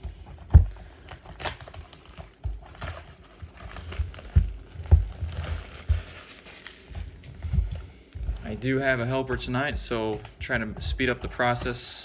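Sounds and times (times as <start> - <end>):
wrapping crinkling: 0.0 - 12.0.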